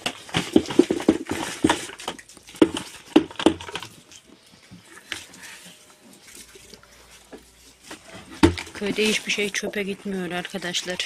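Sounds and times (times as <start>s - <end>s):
goats rustling and feeding: 0.0s - 11.0s.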